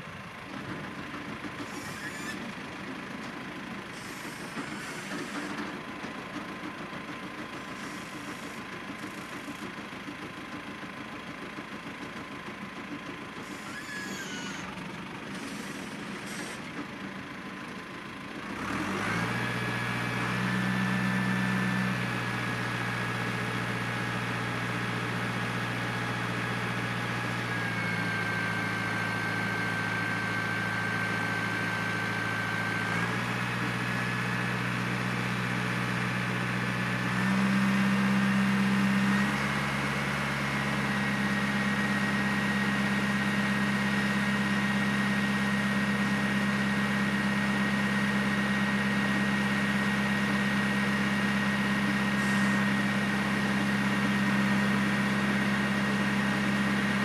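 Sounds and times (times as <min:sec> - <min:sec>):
tractor diesel engine: 0:00.0 - 0:57.0.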